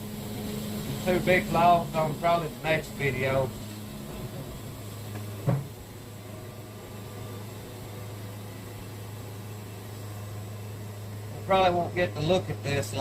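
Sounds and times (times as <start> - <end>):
even hiss: 0.0 - 13.0
low machine hum: 0.0 - 13.0.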